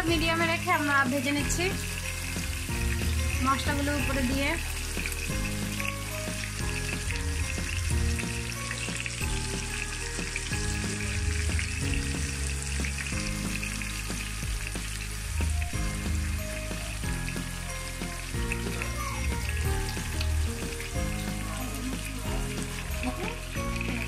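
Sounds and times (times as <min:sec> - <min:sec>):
oil sizzling in a frying pan: 0:00.0 - 0:24.0.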